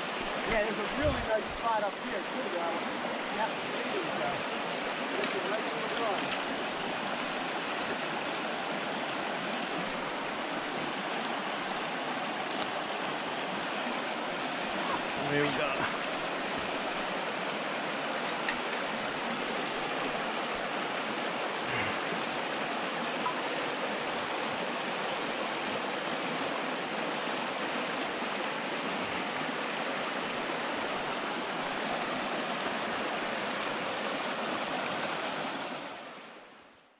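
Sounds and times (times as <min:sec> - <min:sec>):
stream flowing: 0:00.0 - 0:36.9.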